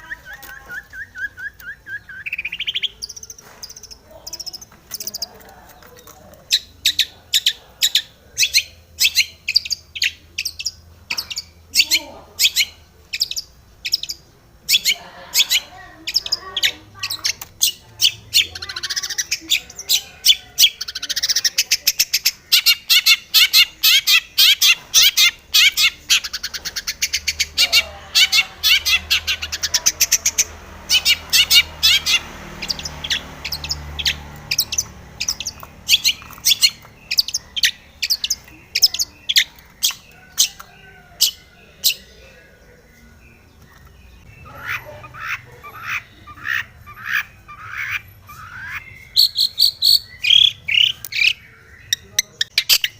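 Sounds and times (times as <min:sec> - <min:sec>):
bird calling harshly: 0:06.4 - 0:42.1, 0:44.2 - 0:52.9.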